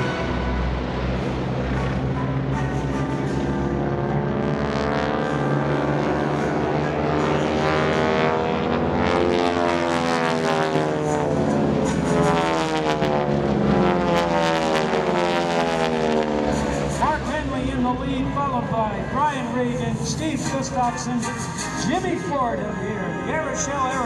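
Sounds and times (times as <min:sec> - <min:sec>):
propeller planes droning overhead: 0:00.0 - 0:24.0.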